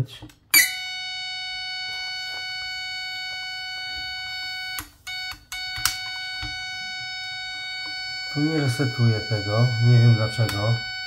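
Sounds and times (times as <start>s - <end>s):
metal detector tone: 0.5s - 11.0s.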